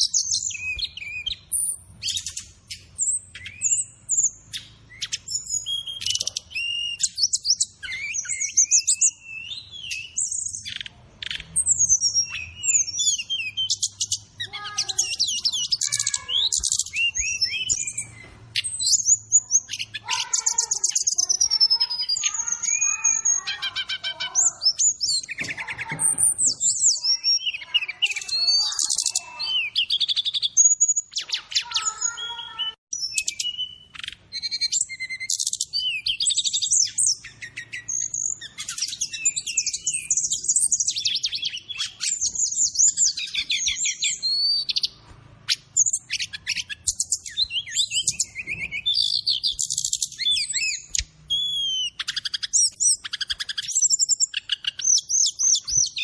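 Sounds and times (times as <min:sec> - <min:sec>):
bird song whistles and trills: 0:00.0 - 0:56.0.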